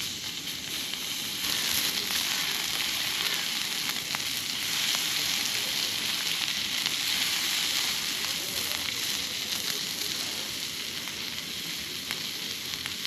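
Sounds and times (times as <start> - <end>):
steak sizzling on grill: 0.0 - 13.0.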